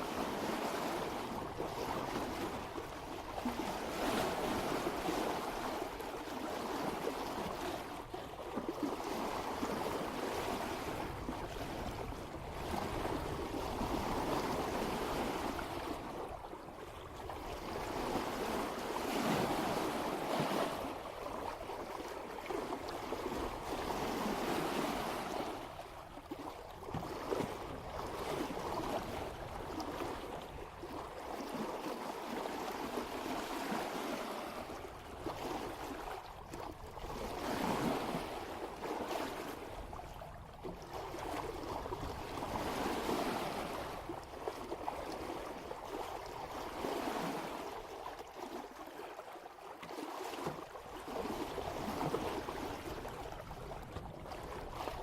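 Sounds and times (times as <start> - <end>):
water splashing along boat bow: 0.0 - 55.0.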